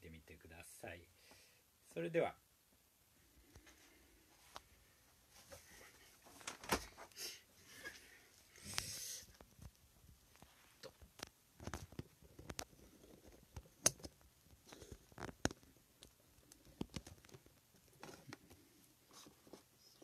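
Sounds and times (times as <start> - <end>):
faint rustling: 3.2 - 20.0.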